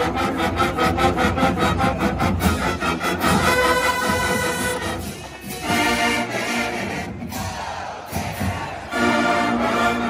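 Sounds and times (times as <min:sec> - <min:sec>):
brass marching band playing: 0:00.0 - 0:10.0.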